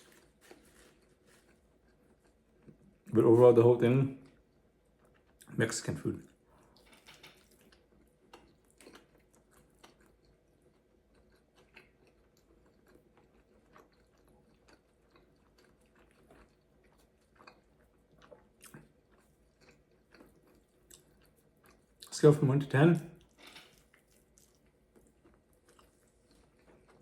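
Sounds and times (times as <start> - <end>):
person chewing and biting: 0.0 - 2.8, 6.6 - 22.1, 23.2 - 27.0.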